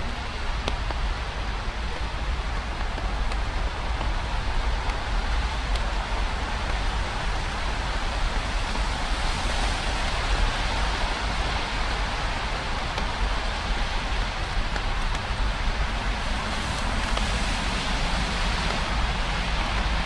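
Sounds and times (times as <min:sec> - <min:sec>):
rain hiss: 0:00.0 - 0:20.0.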